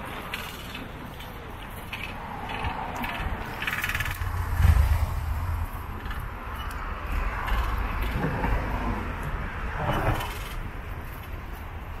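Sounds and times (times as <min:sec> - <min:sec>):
traffic passing: 0:00.0 - 0:12.0
wind rumble on microphone: 0:02.1 - 0:12.0.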